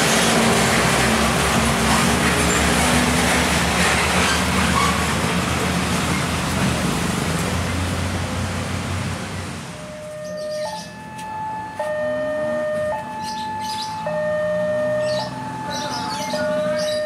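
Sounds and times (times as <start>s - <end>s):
diesel engines droning: 0.0s - 17.0s
heavy road traffic passing: 0.0s - 17.0s.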